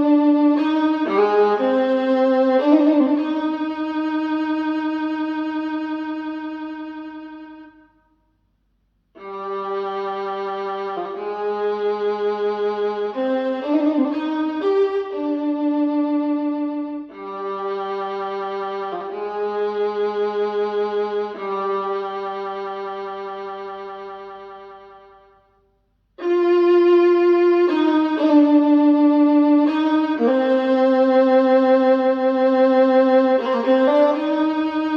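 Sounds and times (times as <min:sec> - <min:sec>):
violin music through a speaker: 0:00.0 - 0:07.9, 0:09.2 - 0:25.4, 0:26.2 - 0:34.9.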